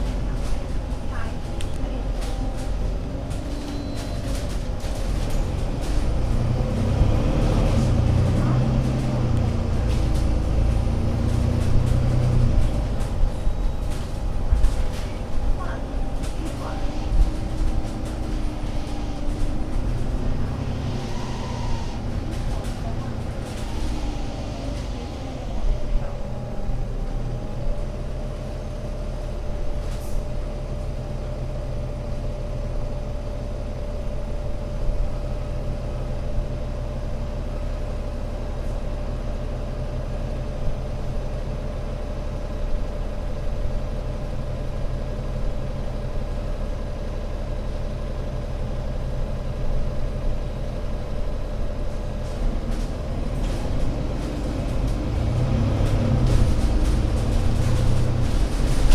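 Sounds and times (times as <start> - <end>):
bus diesel engine droning: 0.0 - 58.9.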